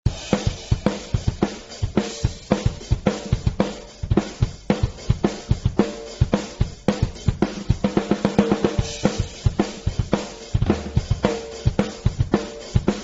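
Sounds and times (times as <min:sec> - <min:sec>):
drum-heavy music: 0:00.0 - 0:13.0.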